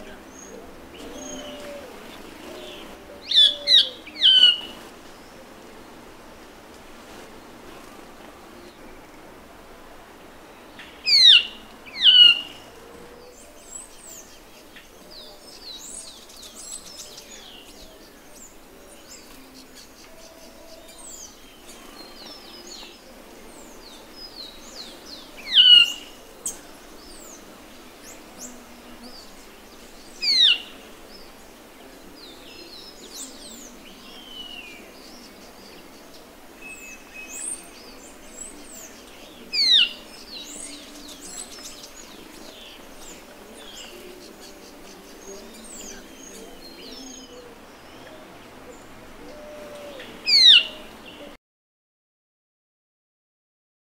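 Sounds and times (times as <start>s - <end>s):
faint chorus of forest birds: 0.0s - 51.4s.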